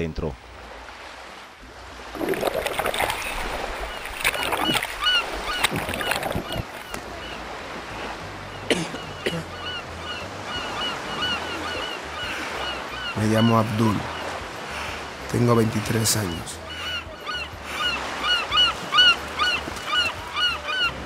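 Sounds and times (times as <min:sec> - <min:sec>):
sea water splashing: 0:00.4 - 0:21.0
birds chirping: 0:02.3 - 0:21.0.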